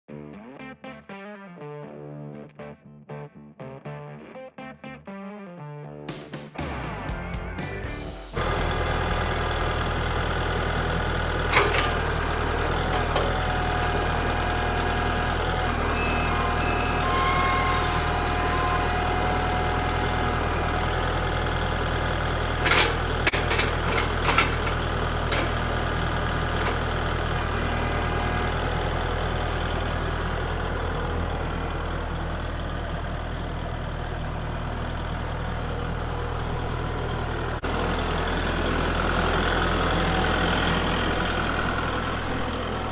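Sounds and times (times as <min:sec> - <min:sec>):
tractor diesel engine running: 0:06.6 - 0:42.9.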